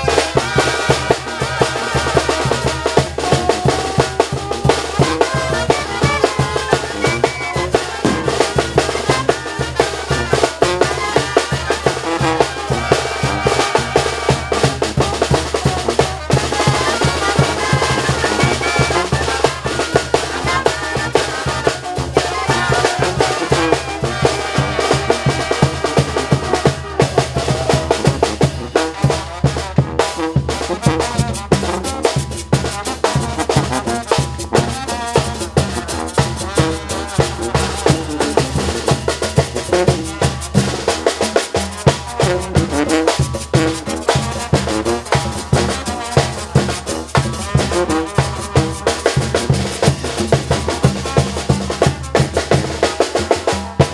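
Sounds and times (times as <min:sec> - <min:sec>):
bass drum and snare beat: 0:00.0 - 0:53.9
brass band playing: 0:00.0 - 0:53.9.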